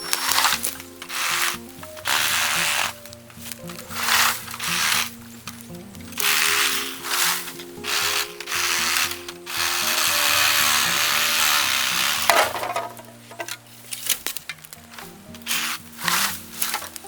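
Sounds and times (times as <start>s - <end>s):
background music: 0.0s - 17.0s
bamboo being cut rasping: 0.0s - 17.0s
bamboo cracking: 0.0s - 17.0s.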